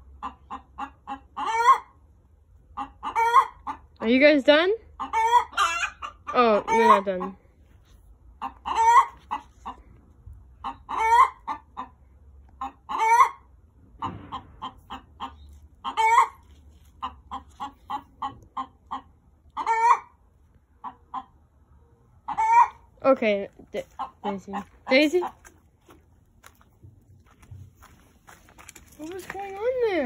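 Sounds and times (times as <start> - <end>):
hens squawking and clucking: 0.0 - 4.1, 4.8 - 30.0.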